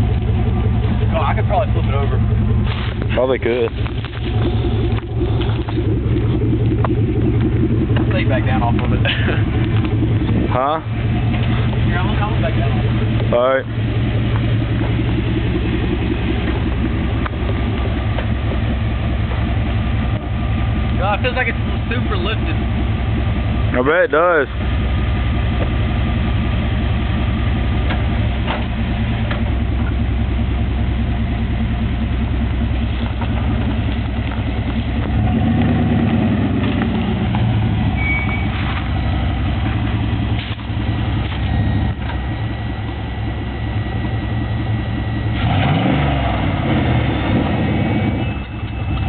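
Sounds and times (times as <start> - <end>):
pickup engine idling: 0.0 - 49.0.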